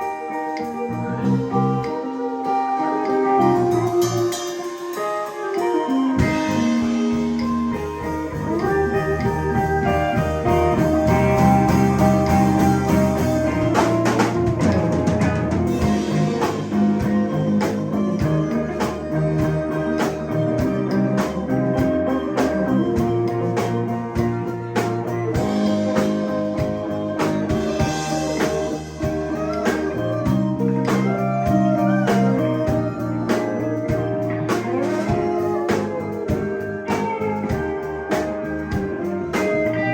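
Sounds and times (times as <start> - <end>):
bass: 0.0 - 39.9
drum kit: 0.0 - 39.9
electric guitar lead: 0.0 - 39.9.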